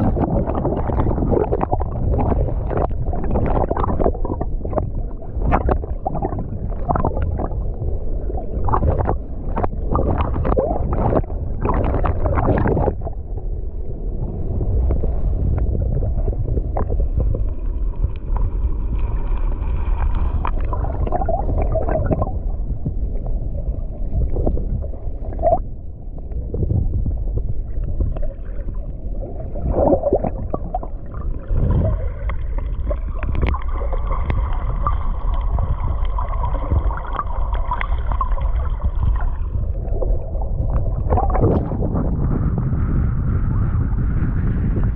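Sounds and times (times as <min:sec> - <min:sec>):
crackling splashes: 0:00.0 - 0:43.2
underwater water sloshing rumble: 0:00.0 - 0:44.9.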